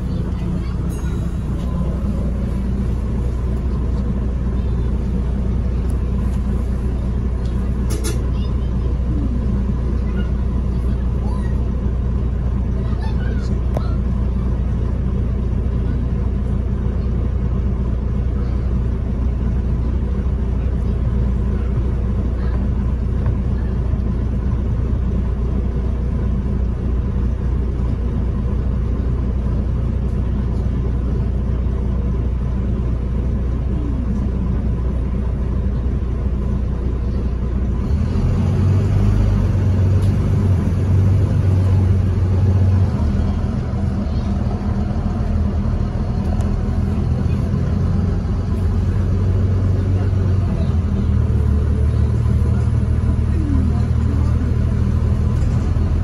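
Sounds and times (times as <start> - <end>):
bus engine droning: 0.0 - 56.0
road and tyre noise: 0.0 - 56.0.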